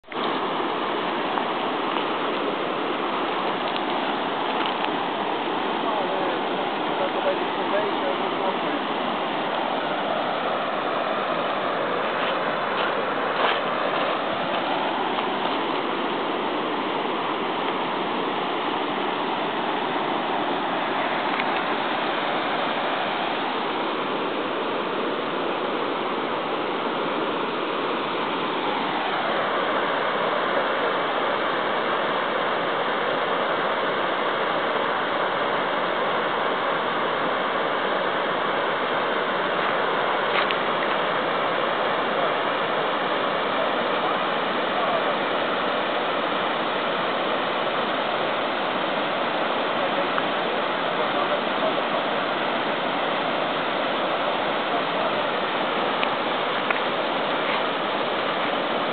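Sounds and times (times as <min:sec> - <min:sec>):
water rushing over rocks: 0:00.0 - 0:58.9.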